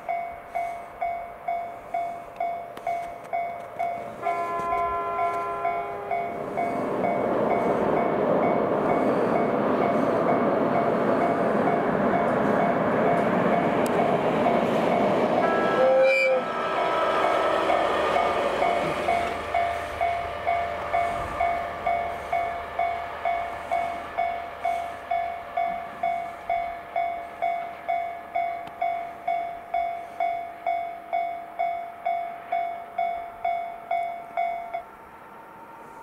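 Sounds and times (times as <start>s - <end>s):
level-crossing alarm bell ringing: 0.0s - 34.9s
diesel locomotive rumble: 0.0s - 36.0s.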